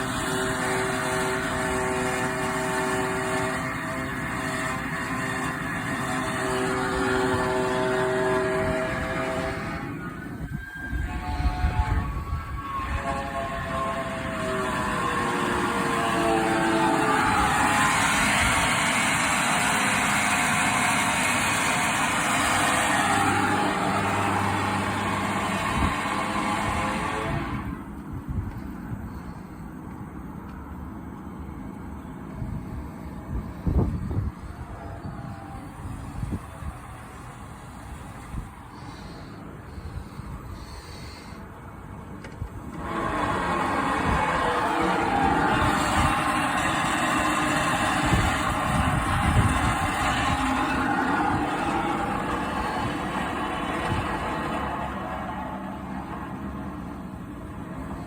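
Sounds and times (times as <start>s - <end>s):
boiler rushing roar: 0.0s - 58.0s
droning hum: 0.0s - 58.0s.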